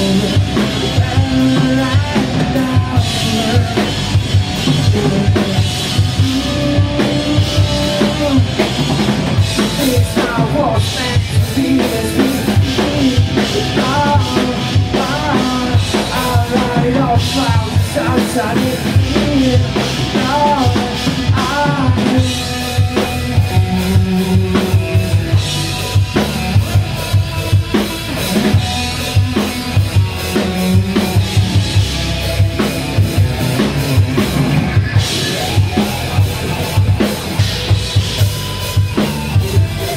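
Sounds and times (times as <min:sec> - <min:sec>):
bass line: 0:00.0 - 0:39.9
drum kit beat: 0:00.0 - 0:39.9
wavering lead melody: 0:00.0 - 0:39.9.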